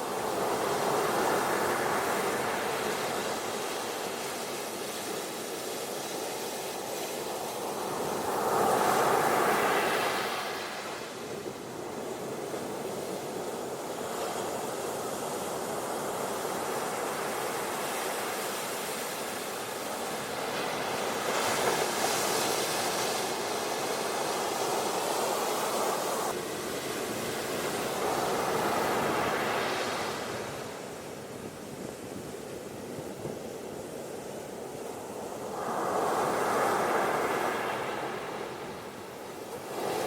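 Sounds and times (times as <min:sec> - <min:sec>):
ocean surf on beach: 0:00.0 - 0:40.0.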